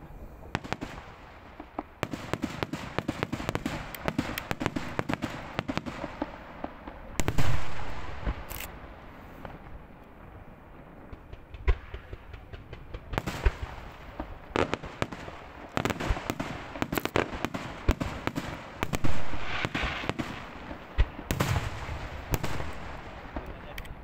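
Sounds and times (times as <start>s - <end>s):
fireworks bangs and cracks: 0.5s - 24.0s.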